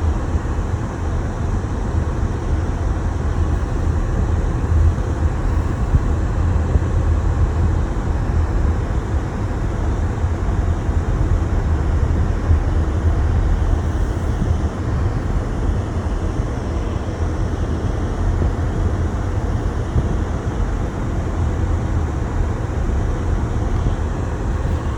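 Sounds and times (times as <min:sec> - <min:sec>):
car engine and tyres rumbling: 0:00.0 - 0:24.9.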